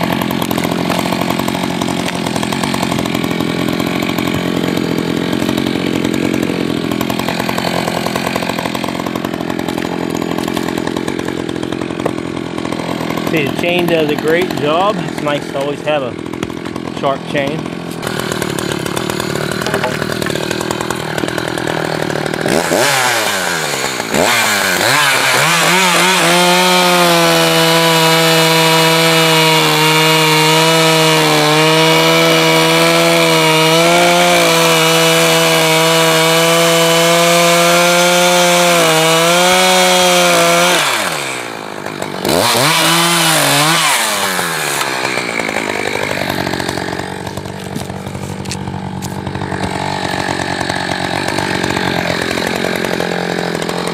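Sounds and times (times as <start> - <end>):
chainsaw revving and cutting: 0.0 - 53.9.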